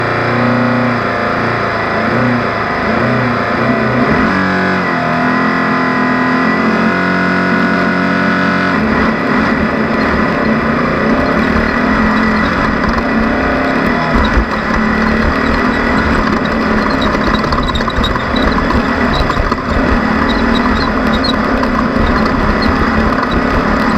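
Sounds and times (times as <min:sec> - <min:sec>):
race car engine running hard: 0:00.0 - 0:23.9.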